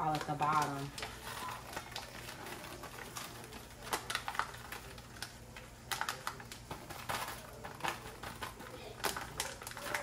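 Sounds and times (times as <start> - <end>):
rice packet shaken and tapped: 0.0 - 10.0.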